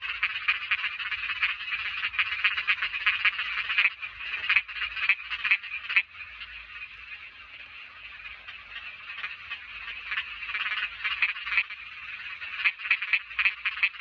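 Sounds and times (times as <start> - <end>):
frogs croaking in chorus: 0.0 - 14.0.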